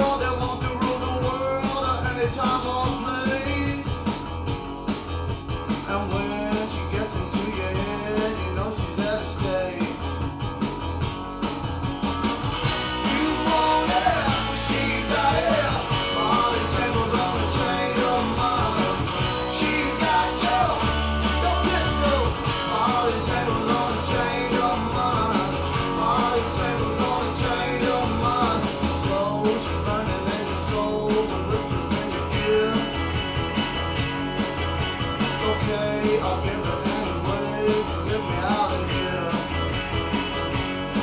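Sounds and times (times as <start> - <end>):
rock song over loudspeakers: 0.0 - 41.0.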